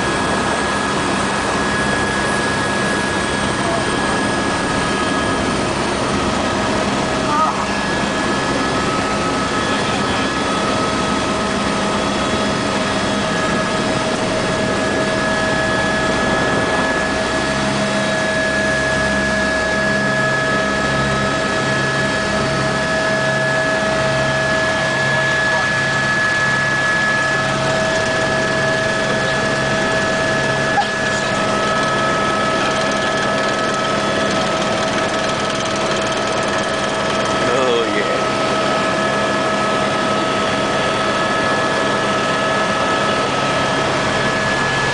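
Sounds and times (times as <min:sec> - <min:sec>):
constant high whine: 0:00.0 - 0:44.9
engine droning steadily: 0:00.0 - 0:44.9.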